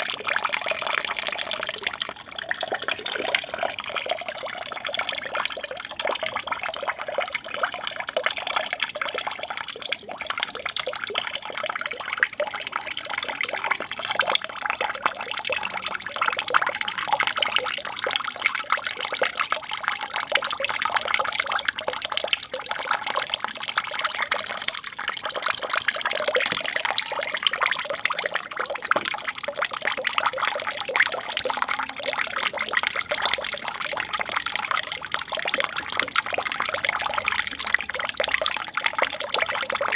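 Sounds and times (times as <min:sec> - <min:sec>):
aquarium waterfall splashing: 0:00.0 - 0:39.9.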